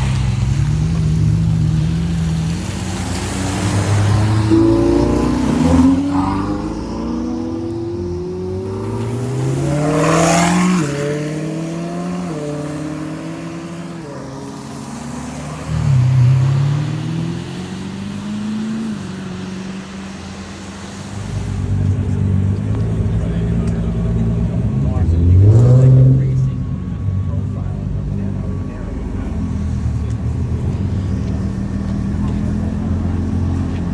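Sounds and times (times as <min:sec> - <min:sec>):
another engine revving: 0:00.0 - 0:20.0, 0:21.2 - 0:33.9
car accelerating through gears: 0:00.0 - 0:33.9.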